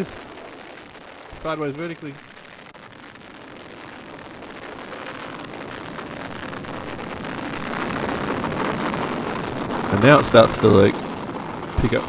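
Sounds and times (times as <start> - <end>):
rocket engines rumbling: 0.0 - 12.0.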